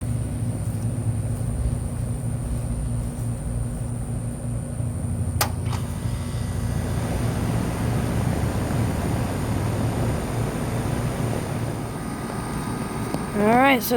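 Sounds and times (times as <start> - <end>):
air conditioner low hum: 0.0 - 13.9
condenser fan air rush: 0.0 - 13.9.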